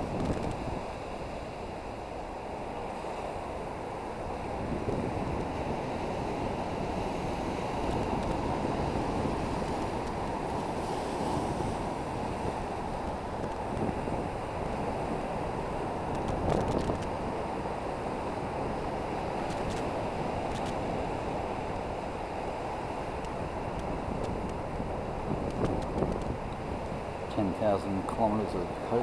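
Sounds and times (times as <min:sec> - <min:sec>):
wind buffeting microphone: 0:00.0 - 0:01.9, 0:04.0 - 0:29.0
ocean surf against rocks: 0:00.0 - 0:29.0.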